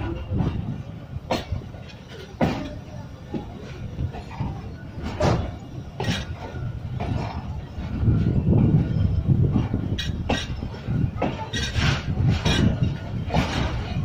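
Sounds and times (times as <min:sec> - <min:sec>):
clacks over rail joints: 0:00.0 - 0:14.0
train wheels rumbling on rails: 0:00.0 - 0:14.0.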